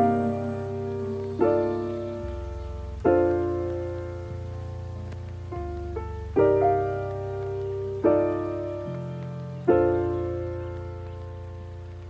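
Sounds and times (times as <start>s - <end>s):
keyboard chords ringing: 0.0s - 12.0s.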